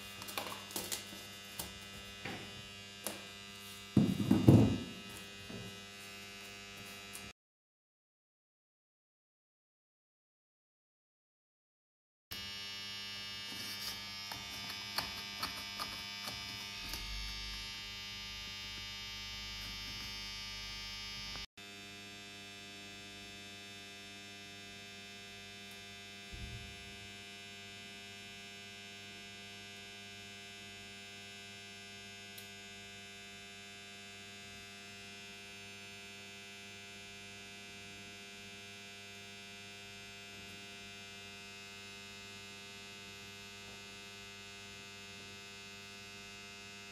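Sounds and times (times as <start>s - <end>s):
electrical mains hum: 0.0s - 7.3s, 12.4s - 46.9s.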